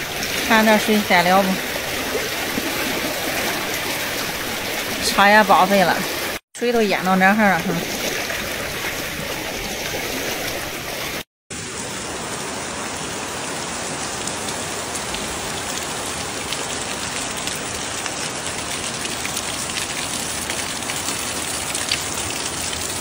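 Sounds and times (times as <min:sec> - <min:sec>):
heavy rain falling on water: 0:00.0 - 0:23.0.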